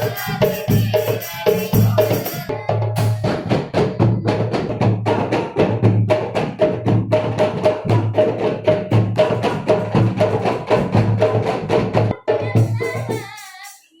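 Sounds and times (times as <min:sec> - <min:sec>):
hand drums playing fast rhythm: 0:00.0 - 0:13.8.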